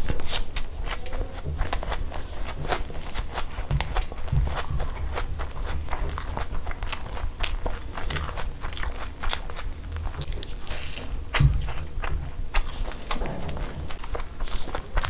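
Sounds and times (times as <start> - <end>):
wet chewing and mouth clicks: 0.0 - 15.0.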